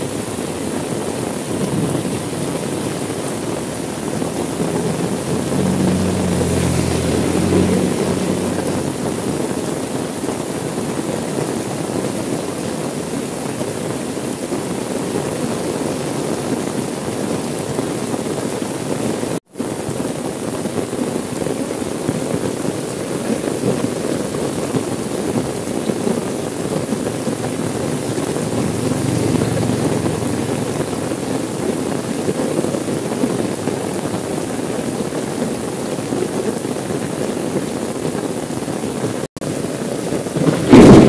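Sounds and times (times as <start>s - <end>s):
rain on a car window: 0.0s - 41.0s.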